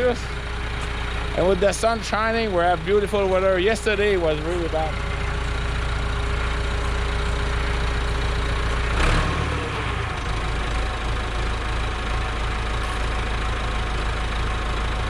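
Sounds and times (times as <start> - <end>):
diesel tractor engine idling: 0.0 - 15.0.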